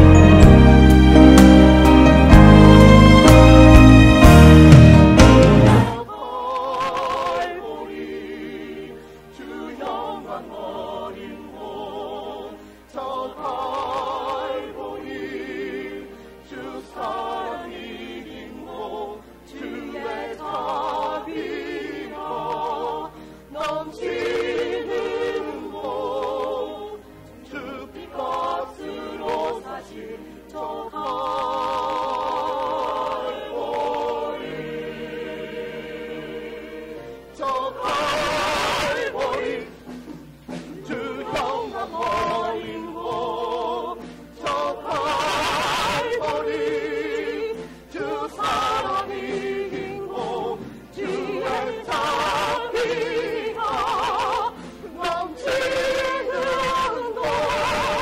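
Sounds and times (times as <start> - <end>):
church choir singing: 0.0 - 58.0.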